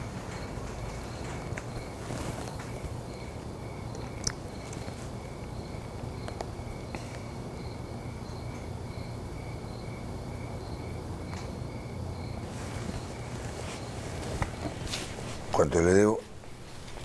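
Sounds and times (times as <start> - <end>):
crickets chirping: 0.0 - 17.0
steady low hum: 0.0 - 17.0.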